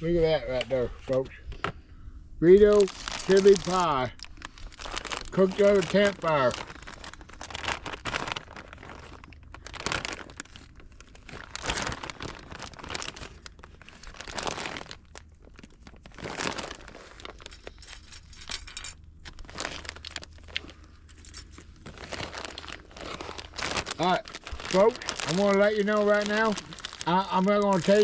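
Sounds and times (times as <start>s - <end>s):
packaging crinkling: 2.6s - 28.0s.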